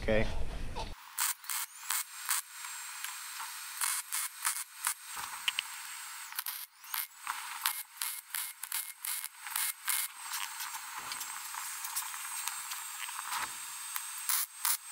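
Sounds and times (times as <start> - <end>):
welding arc sizzling: 0.9 - 14.9.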